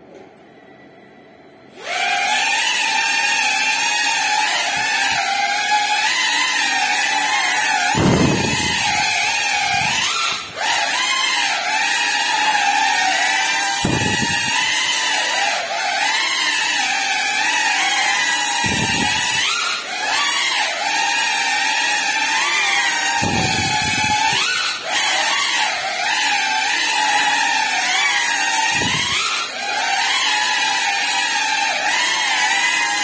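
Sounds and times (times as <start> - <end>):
drone propellers whining: 1.6 - 33.0.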